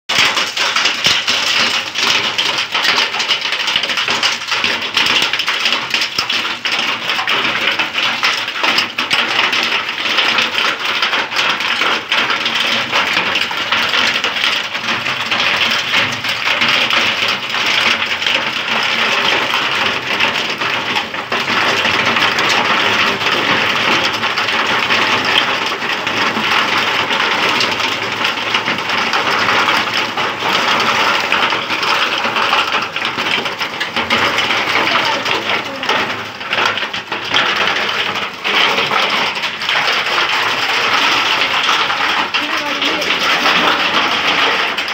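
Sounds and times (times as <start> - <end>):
hail and rain pelting ground: 0.1 - 44.9.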